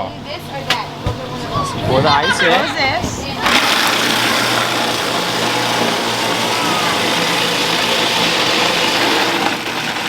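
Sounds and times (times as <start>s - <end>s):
snow cone machine motor humming: 0.3s - 10.0s.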